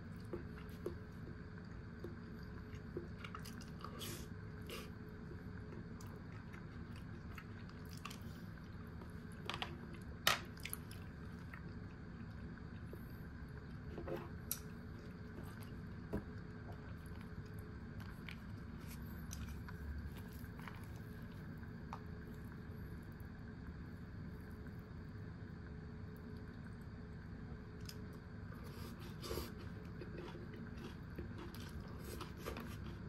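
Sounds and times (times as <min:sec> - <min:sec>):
chewing food: 0:00.0 - 0:13.8, 0:14.4 - 0:22.6, 0:27.8 - 0:33.0
steady low hum: 0:00.0 - 0:33.0.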